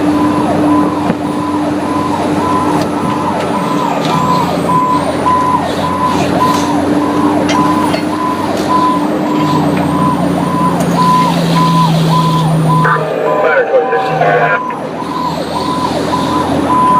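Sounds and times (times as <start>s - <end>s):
fire truck siren cycling: 0.0s - 16.9s
second lower siren tone: 0.1s - 16.9s.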